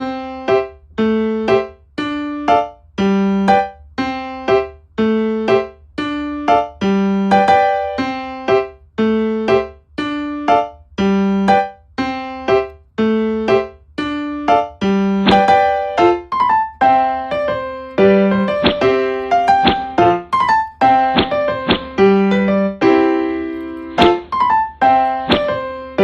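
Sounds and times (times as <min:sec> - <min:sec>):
keyboard simple melody: 0:00.0 - 0:26.0.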